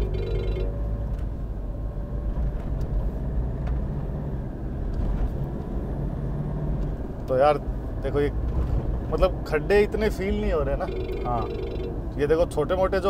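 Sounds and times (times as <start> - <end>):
engine and tyre rumble inside car: 0.0 - 10.9, 11.6 - 13.0.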